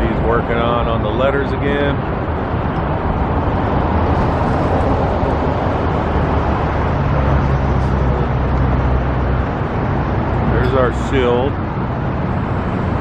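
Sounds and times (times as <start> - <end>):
low engine hum: 0.0 - 13.0
road traffic rumble: 0.0 - 13.0.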